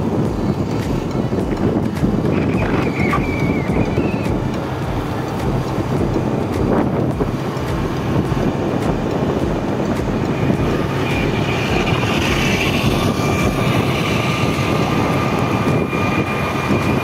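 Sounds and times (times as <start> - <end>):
motorcycle engine: 0.0 - 17.0
road noise: 0.0 - 17.0
wind buffeting microphone: 0.0 - 17.0.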